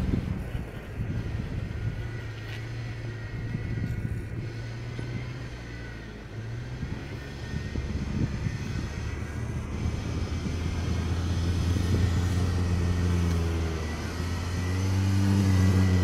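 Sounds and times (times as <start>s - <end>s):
truck engine low drone: 0.0s - 16.0s.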